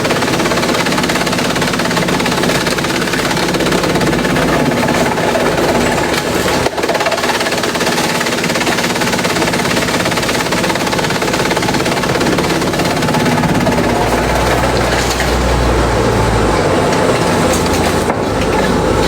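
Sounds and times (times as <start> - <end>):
motor hum: 0.0 - 19.0
shredding machine rattling: 0.0 - 19.0.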